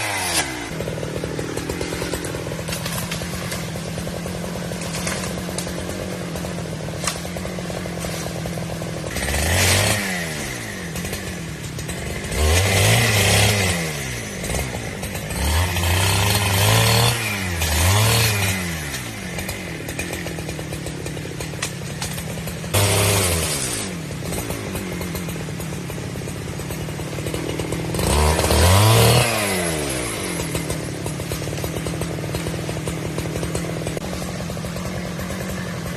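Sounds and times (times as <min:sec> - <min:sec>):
chainsaw engine idling and revving: 0:00.0 - 0:35.9.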